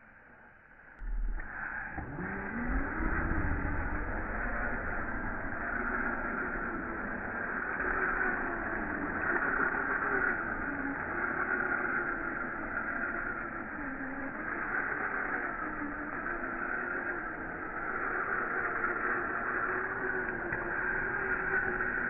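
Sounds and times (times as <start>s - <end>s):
toy car electric motors whining: 2.0s - 22.0s.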